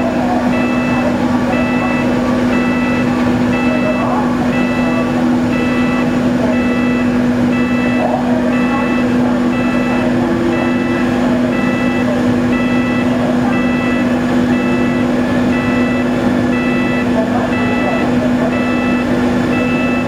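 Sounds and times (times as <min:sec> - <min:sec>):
low machinery drone: 0:00.0 - 0:20.0
short high warning beeps: 0:00.1 - 0:20.0.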